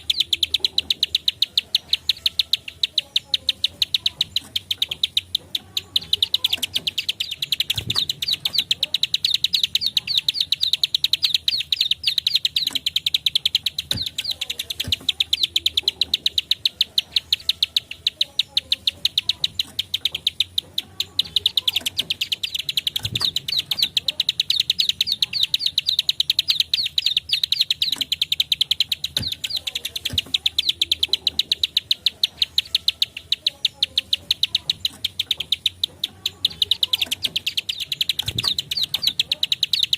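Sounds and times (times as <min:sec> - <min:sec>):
bird clicking song: 0:00.0 - 0:39.9.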